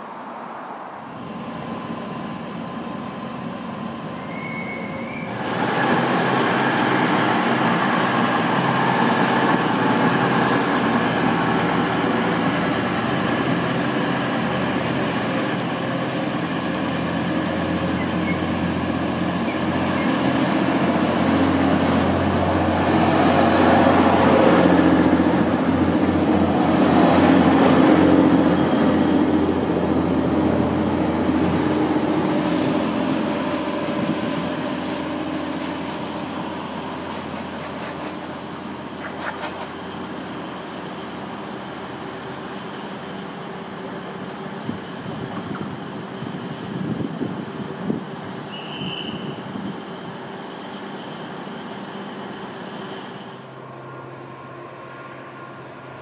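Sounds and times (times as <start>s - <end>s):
diesel train engines pulling away: 0.0s - 56.0s.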